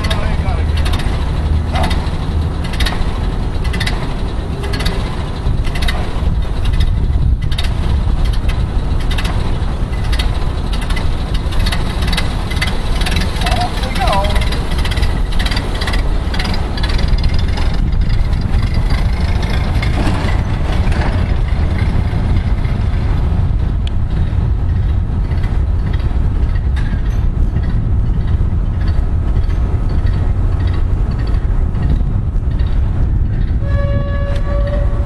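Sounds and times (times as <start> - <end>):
road noise: 0.0 - 35.0
truck engine rumble: 0.0 - 35.0.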